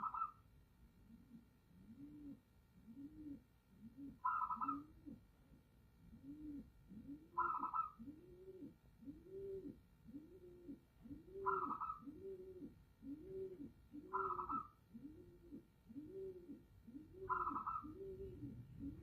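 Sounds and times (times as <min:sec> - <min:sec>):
doves cooing: 0:00.0 - 0:00.4, 0:01.0 - 0:05.3, 0:06.0 - 0:19.0.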